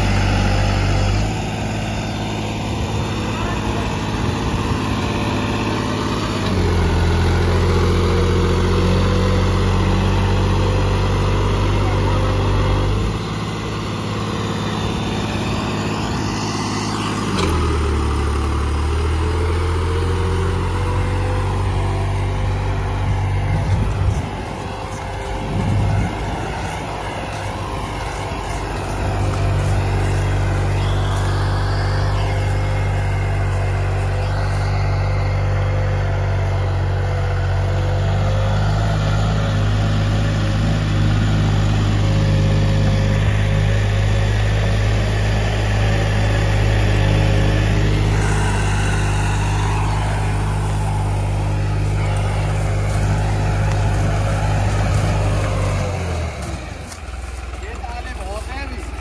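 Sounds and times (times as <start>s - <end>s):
tractor diesel engine labouring: 0.0s - 59.0s.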